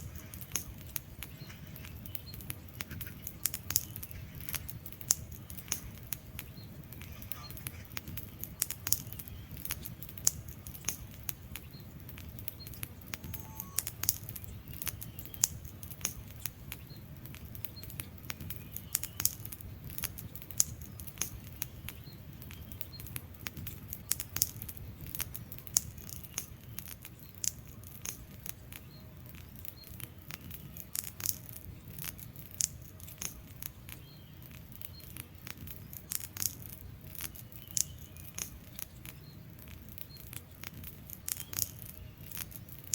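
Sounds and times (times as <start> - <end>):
logs crackling and popping: 0.0 - 42.9
low rumble of flames: 0.0 - 42.9.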